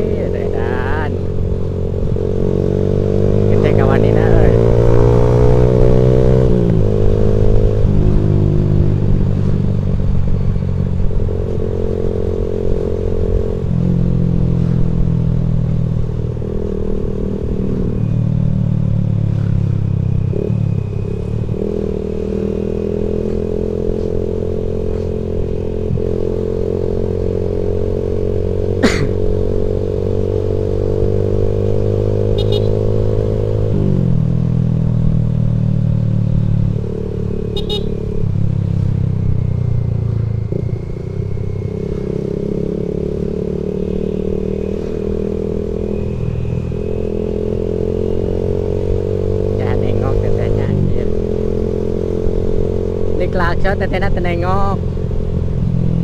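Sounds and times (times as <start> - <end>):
engine accelerating through gears: 0.0 - 56.0.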